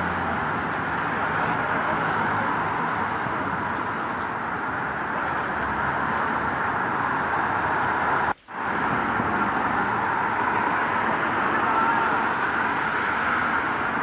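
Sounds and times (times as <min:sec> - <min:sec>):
steady rain: 0:00.0 - 0:14.0
street traffic rushing: 0:00.0 - 0:14.0.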